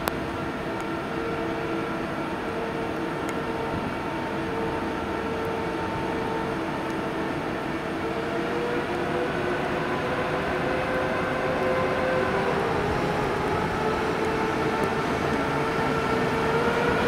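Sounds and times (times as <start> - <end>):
electric locomotive humming: 0.0 - 17.0.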